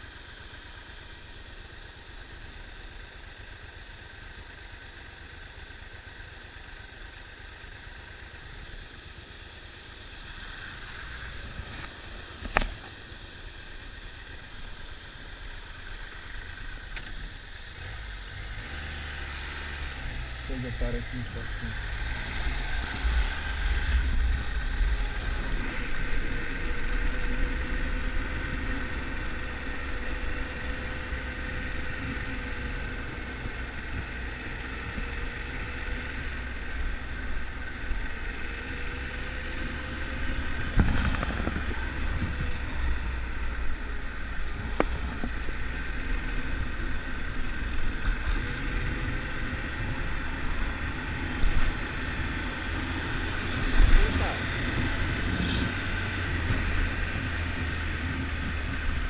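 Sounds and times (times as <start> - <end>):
motorcycle engine rumbling: 2.7 - 59.0.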